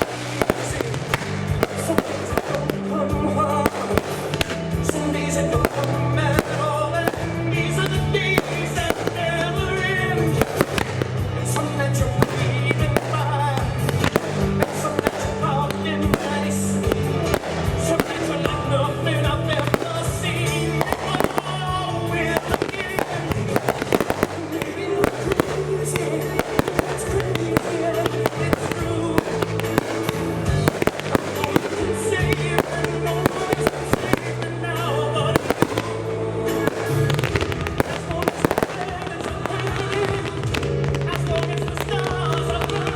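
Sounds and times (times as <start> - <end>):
fireworks bangs and crackles: 0.0 - 42.9
loud music with low notes: 0.0 - 42.9.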